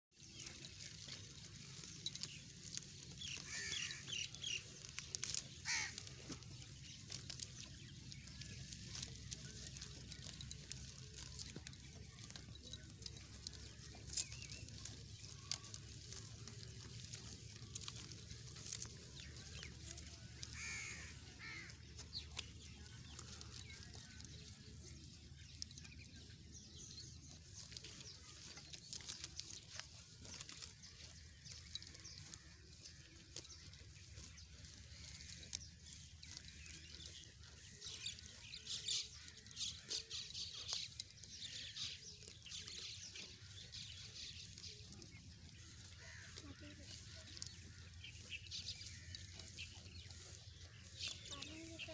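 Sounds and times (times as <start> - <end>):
birds calling: 0.1 - 51.9
sheep chewing grass: 0.1 - 51.9.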